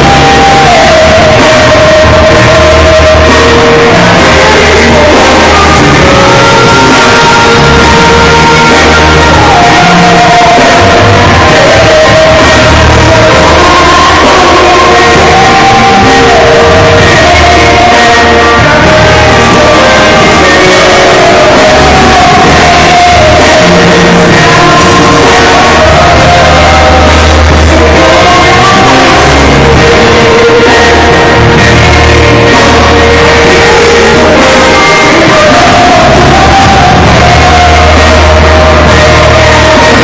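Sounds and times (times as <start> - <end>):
drums: 0.0 - 40.0
electric bass: 0.0 - 40.0
keyboards: 0.0 - 40.0
man singing: 0.0 - 40.0
woman singing: 0.0 - 40.0.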